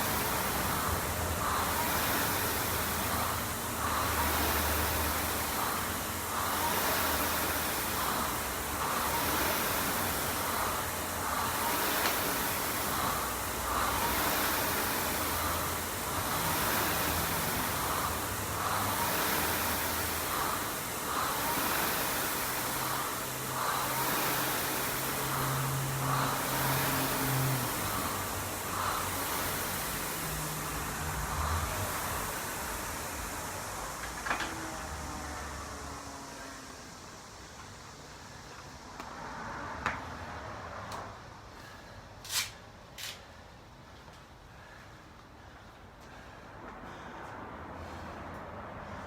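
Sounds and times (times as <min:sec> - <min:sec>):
rowing machine flywheel whooshing: 0:00.0 - 0:43.2.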